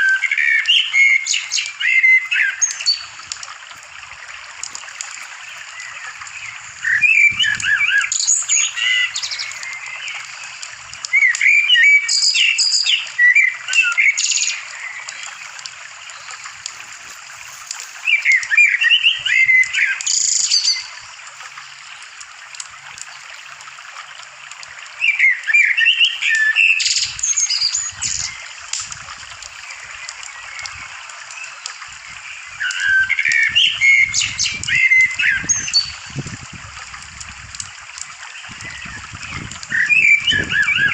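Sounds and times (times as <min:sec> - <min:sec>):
bird chirping and warbling: 0:00.0 - 0:22.2, 0:22.8 - 0:36.4, 0:38.1 - 0:40.9.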